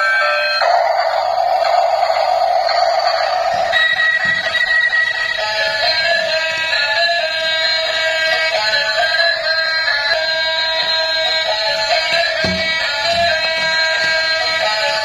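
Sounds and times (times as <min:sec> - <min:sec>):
electronic music: 0:00.0 - 0:15.0.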